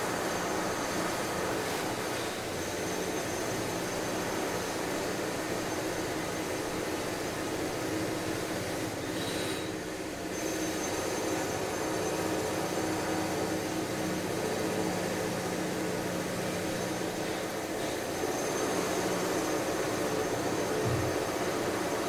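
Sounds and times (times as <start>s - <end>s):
construction machinery running: 0.0s - 22.0s.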